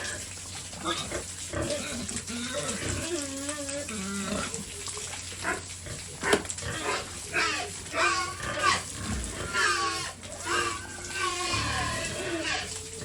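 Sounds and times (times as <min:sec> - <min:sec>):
pigs squealing and grunting: 0:00.0 - 0:13.0.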